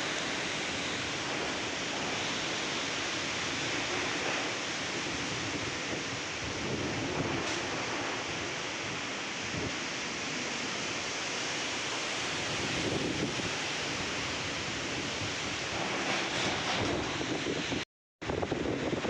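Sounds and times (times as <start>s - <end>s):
wind buffeting microphone: 0.0s - 9.9s, 12.3s - 19.0s
heavy rain: 0.0s - 19.0s
storm wind: 0.0s - 19.0s.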